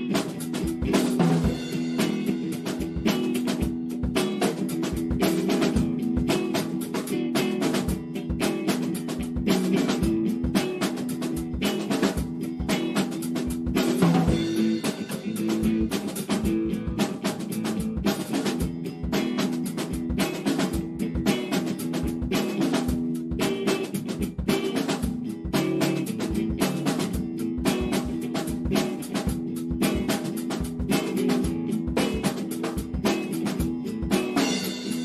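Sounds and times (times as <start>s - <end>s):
drum kit pattern: 0.0s - 35.0s
electric guitar: 0.0s - 35.0s.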